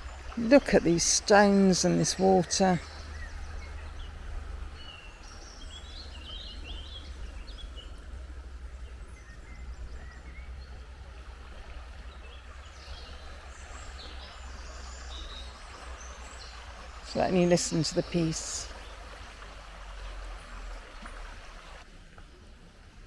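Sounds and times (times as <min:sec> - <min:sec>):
river water rushing over stones: 0:00.0 - 0:08.5, 0:10.9 - 0:22.2
small birds chirping: 0:00.0 - 0:21.8.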